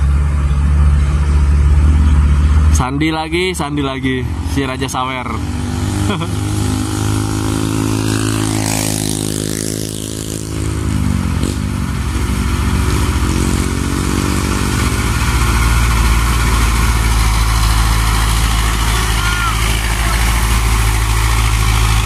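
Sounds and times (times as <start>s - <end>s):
diesel truck engine passing: 0.0s - 22.0s
motorcycle passing: 0.0s - 22.0s.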